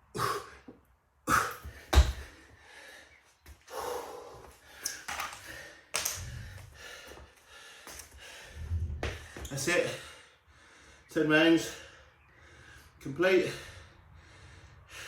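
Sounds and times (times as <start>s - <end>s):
man breathing hard and gasping: 0.1s - 11.1s, 11.7s - 15.0s.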